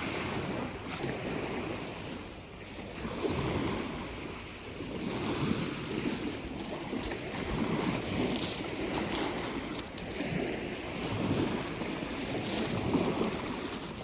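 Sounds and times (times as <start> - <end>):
rushing water: 0.0 - 14.0
wind: 0.0 - 14.0.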